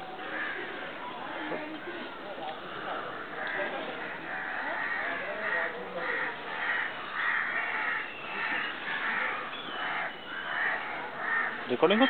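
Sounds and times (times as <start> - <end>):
crows cawing: 0.2 - 0.8, 2.6 - 12.0.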